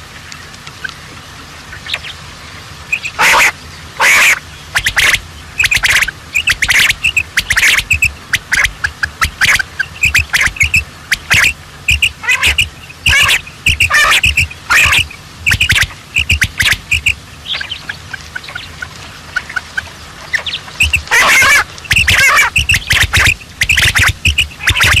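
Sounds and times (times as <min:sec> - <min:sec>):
birds squawking: 0:01.7 - 0:25.0.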